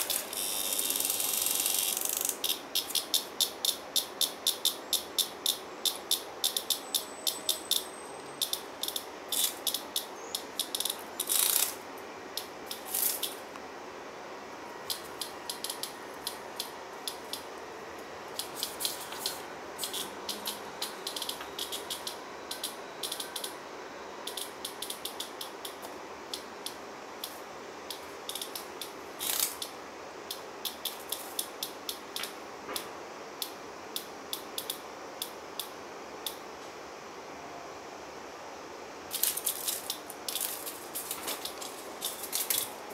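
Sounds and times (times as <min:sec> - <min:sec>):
cicada buzzing: 0:00.0 - 0:37.1, 0:38.7 - 0:42.9.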